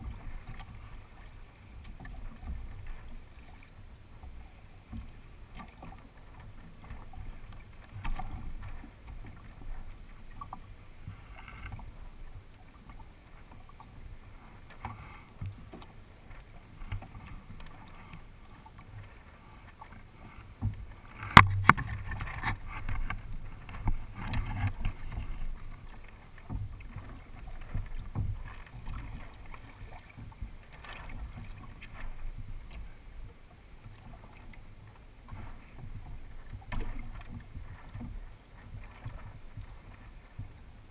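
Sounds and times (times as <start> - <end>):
water lapping against kayak hull: 0.0 - 40.9.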